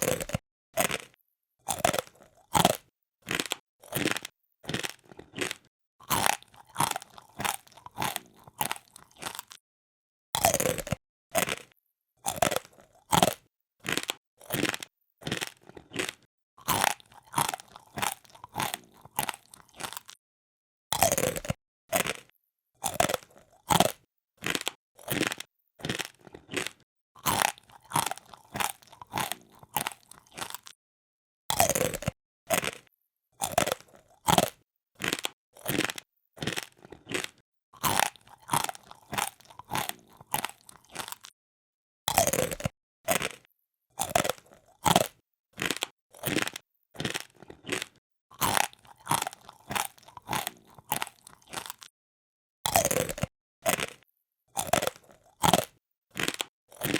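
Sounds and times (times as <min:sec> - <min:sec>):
crisp food crunching: 0:00.0 - 0:09.6, 0:10.4 - 0:20.2, 0:20.9 - 0:30.8, 0:31.5 - 0:41.4, 0:42.1 - 0:51.9, 0:52.7 - 0:56.9.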